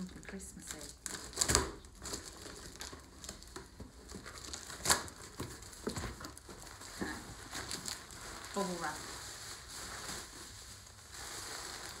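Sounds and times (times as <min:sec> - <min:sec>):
cardboard and tape rustling: 0:00.3 - 0:12.0.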